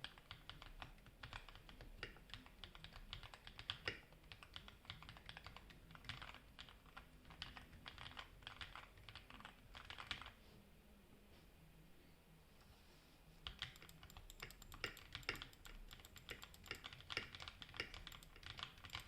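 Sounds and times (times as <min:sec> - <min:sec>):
mechanical keyboard typing: 0:00.0 - 0:10.4, 0:13.4 - 0:19.0.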